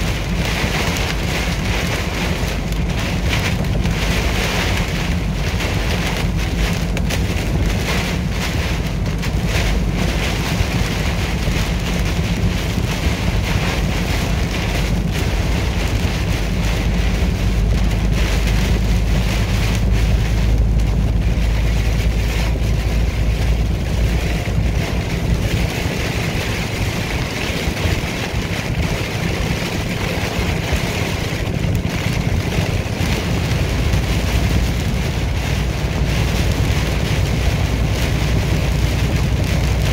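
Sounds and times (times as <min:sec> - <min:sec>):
rain and road spray on cab: 0:00.0 - 0:39.9
road noise: 0:00.0 - 0:39.9
truck engine droning: 0:00.0 - 0:39.9.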